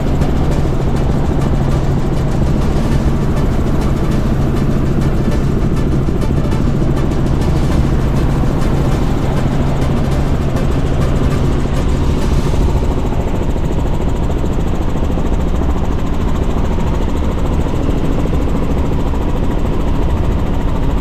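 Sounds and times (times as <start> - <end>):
helicopter rotor drone: 0.0 - 21.0.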